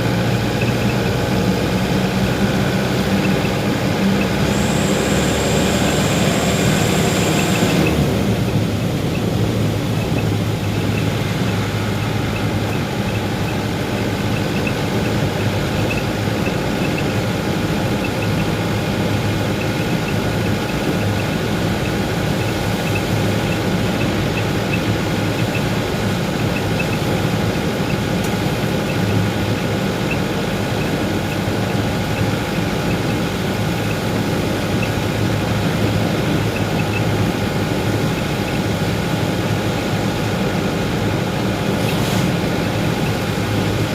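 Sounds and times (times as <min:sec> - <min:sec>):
road noise: 0:00.0 - 0:43.9
vehicle engine humming: 0:00.0 - 0:43.9.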